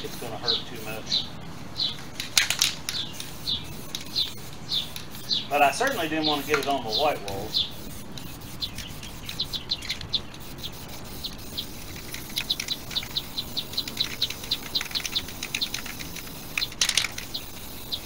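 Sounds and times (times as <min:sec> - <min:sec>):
spray paint can hiss: 0:00.0 - 0:18.0
small bird chirping: 0:00.4 - 0:02.1, 0:02.8 - 0:18.0.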